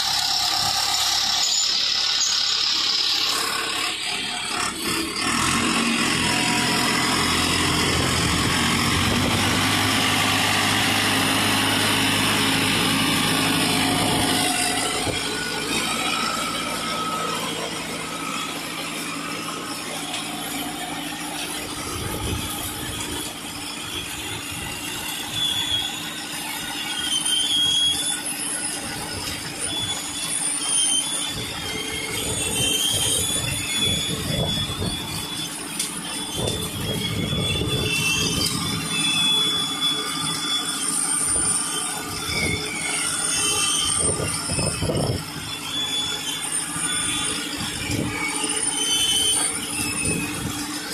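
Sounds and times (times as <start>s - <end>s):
metal squealing: 0.0s - 50.9s
truck engine running: 0.0s - 50.9s.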